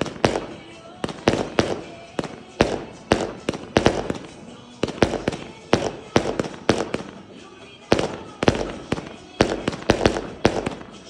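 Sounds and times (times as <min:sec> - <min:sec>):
fireworks bangs in quick succession: 0:00.0 - 0:11.0.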